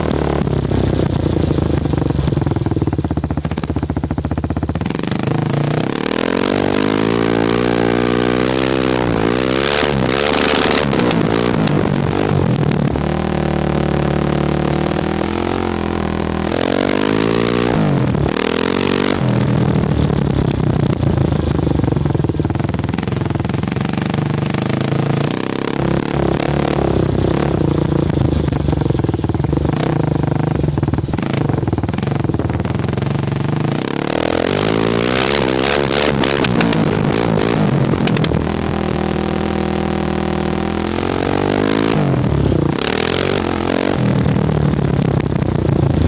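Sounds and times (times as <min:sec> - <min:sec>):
atv engine revving: 0:00.0 - 0:46.0
exhaust popping and crackling: 0:00.0 - 0:46.0.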